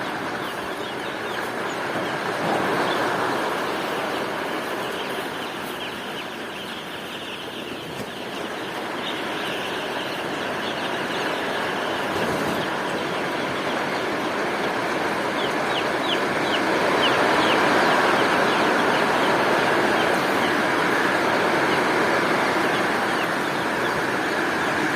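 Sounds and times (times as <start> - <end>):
chickens peeping and clucking: 0.0 - 24.9.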